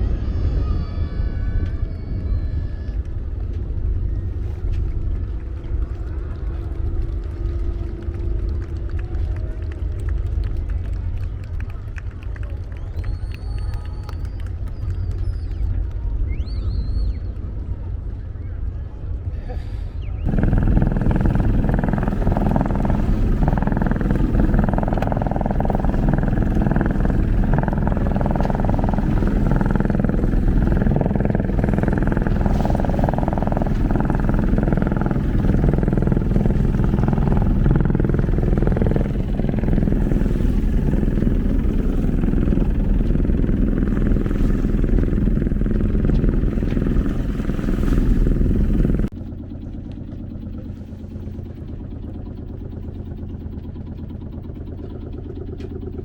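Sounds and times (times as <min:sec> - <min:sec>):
boat engine starting and running: 0:03.1 - 0:15.9, 0:20.2 - 0:56.0.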